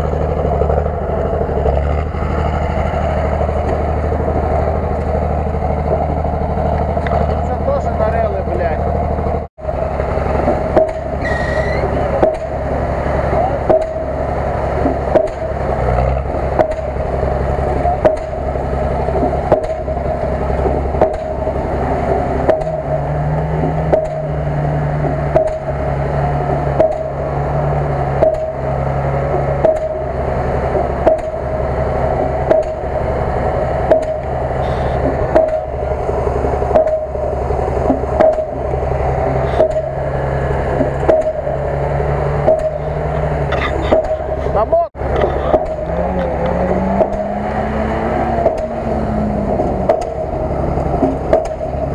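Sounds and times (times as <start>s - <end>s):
low bass line: 0.0s - 51.9s.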